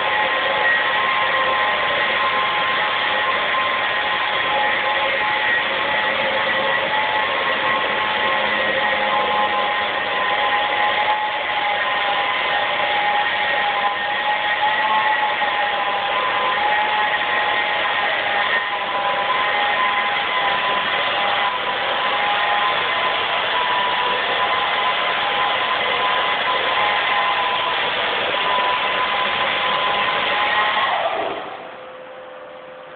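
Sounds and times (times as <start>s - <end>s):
loud machine noise with held tones: 0.0s - 32.9s.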